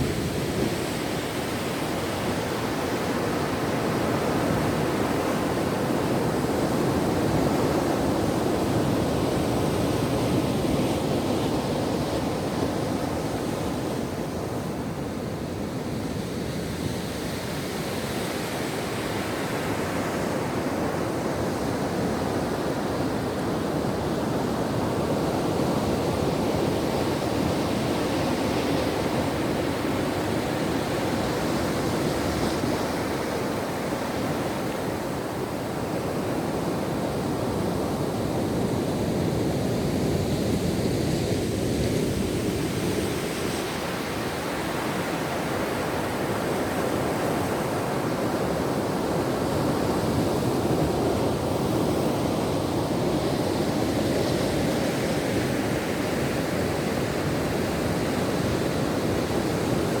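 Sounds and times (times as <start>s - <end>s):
ocean waves on shore: 0.0s - 60.0s.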